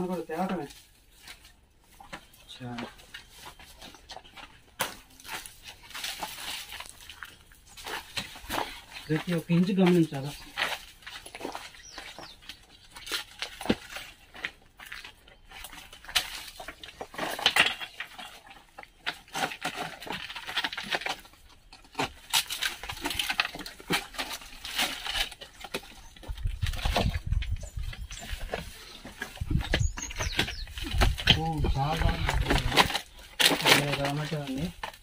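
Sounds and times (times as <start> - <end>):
footsteps on loose rocks: 0.0 - 35.0
stones clinking: 2.1 - 35.0.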